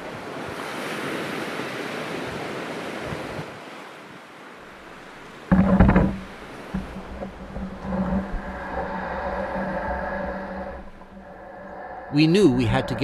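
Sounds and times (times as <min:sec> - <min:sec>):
waves washing against rocks: 0:00.0 - 0:13.0
wind: 0:00.0 - 0:13.0.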